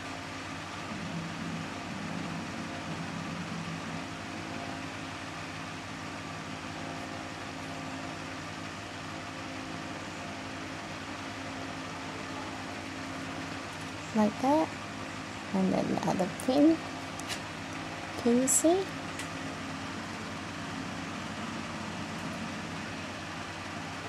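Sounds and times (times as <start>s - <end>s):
background hum and hiss: 0.0s - 24.0s.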